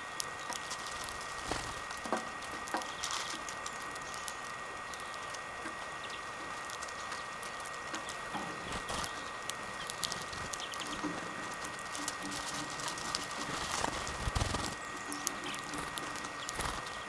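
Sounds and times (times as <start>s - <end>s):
beaks cracking seed husks: 0.0s - 17.0s
seeds rattling in tray: 0.2s - 5.4s, 6.4s - 17.0s.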